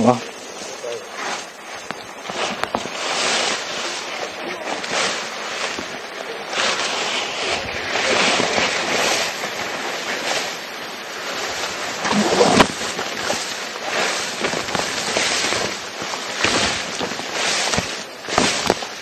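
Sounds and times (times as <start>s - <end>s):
footsteps crunching through dry brush: 0.4s - 19.0s.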